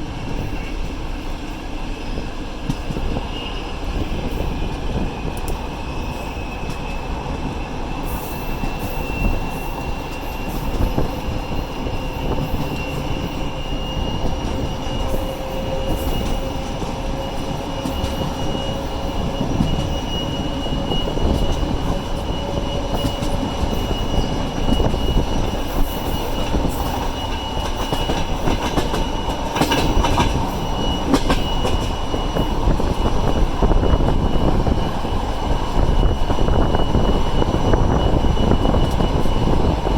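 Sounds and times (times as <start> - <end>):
rising locomotive whine: 0.0 - 39.9
sharp clicks from train wheels: 0.0 - 39.9
train rolling noise: 0.0 - 39.9.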